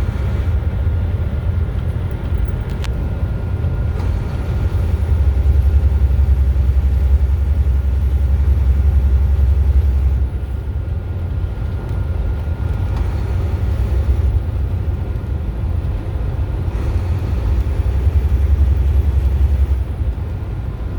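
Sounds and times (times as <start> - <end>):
car road rumble at highway speed: 0.0 - 20.9.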